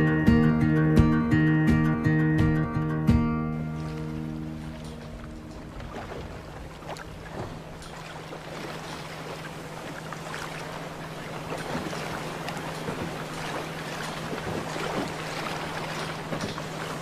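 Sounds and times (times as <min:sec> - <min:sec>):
boat engine hum: 0:00.0 - 0:17.0
water splashing against hull: 0:03.3 - 0:17.0.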